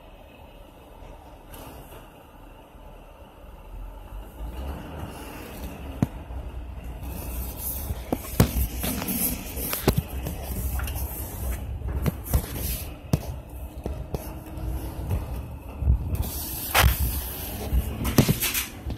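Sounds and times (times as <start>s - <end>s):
low engine and road rumble: 0.0s - 18.9s.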